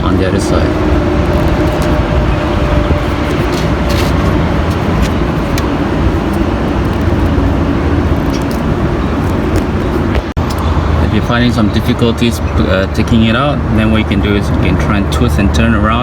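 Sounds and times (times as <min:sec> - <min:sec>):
motor vehicle humming: 0:00.0 - 0:15.4.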